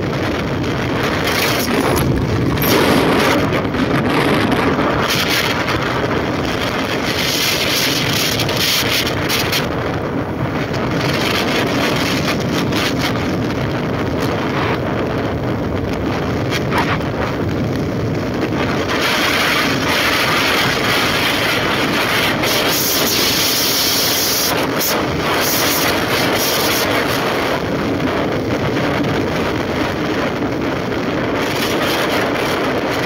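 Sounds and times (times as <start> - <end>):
motorcycle road noise: 0.0 - 33.0
wind rushing over microphone: 0.0 - 33.0.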